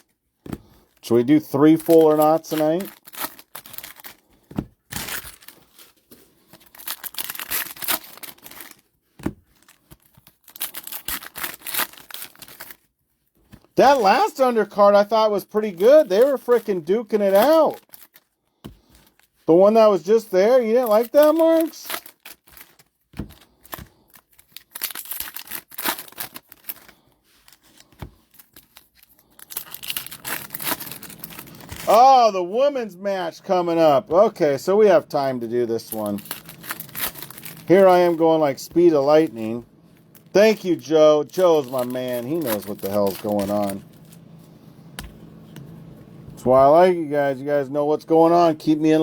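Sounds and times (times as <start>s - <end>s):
foil wrappers tearing and crinkling: 0.0s - 44.2s.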